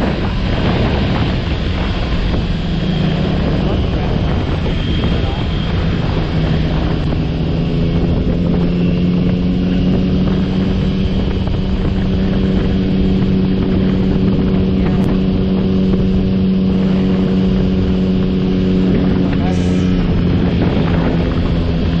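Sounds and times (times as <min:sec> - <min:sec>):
motorcycle engine cruising: 0:00.0 - 0:22.0
wind noise on microphone: 0:00.0 - 0:22.0.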